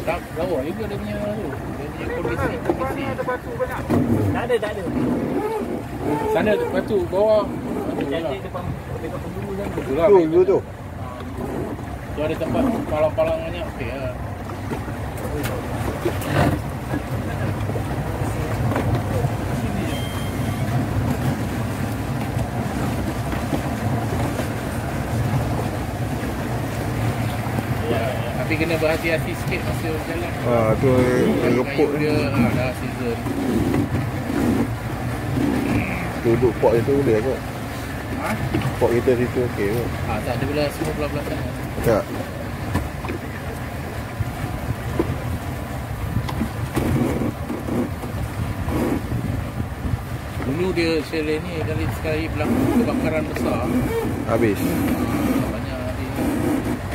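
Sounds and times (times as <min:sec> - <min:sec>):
outboard motor running: 0:00.0 - 0:56.9
wind and water hiss: 0:00.0 - 0:56.9.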